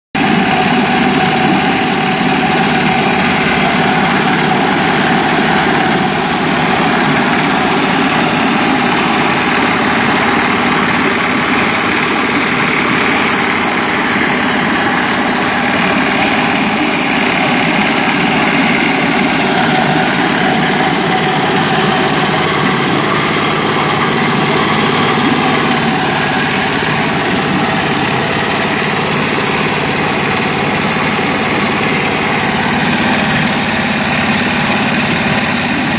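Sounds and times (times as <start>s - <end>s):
engine running steadily: 0.2s - 35.9s.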